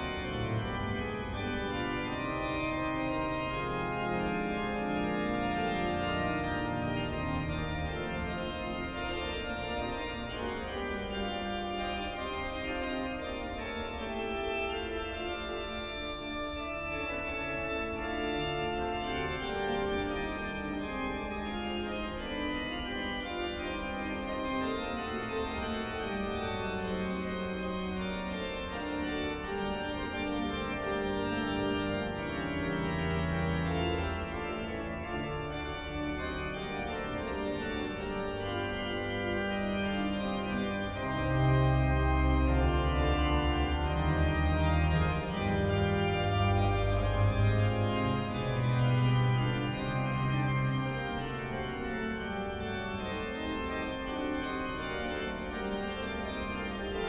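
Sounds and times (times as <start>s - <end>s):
church organ chords: 0.0s - 57.0s
deep organ pedal bass notes: 0.0s - 57.0s.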